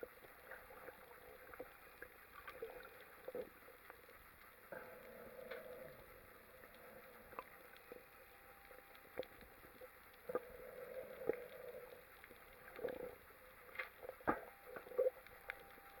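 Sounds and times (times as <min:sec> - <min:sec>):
faint hiss: 0:00.0 - 0:16.0
underwater clicks: 0:00.4 - 0:16.0.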